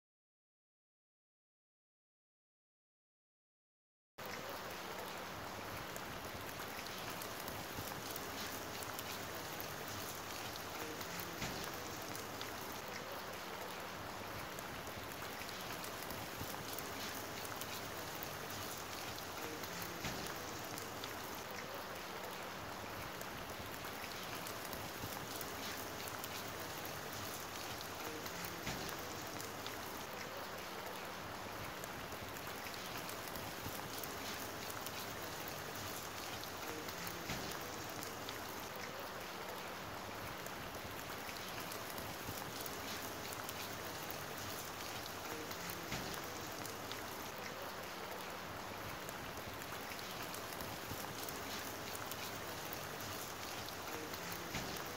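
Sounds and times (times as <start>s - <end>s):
light rain on wet road: 4.2s - 54.9s.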